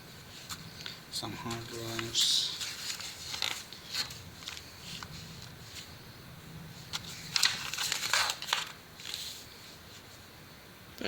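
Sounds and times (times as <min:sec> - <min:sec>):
paper pages rustling: 0:00.3 - 0:06.0, 0:06.8 - 0:10.2.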